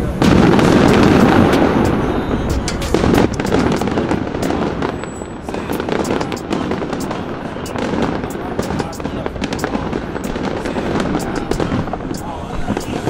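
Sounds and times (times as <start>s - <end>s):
fireworks popping and crackling: 0.0s - 13.0s.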